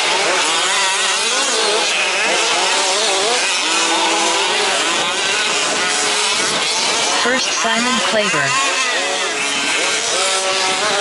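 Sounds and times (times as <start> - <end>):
rc truck engines revving: 0.0 - 11.0.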